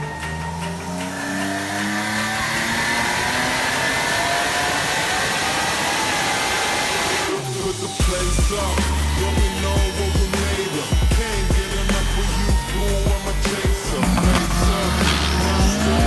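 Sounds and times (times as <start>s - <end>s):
car engine accelerating: 0.0s - 16.0s
music with heavy bass beat: 0.0s - 16.0s.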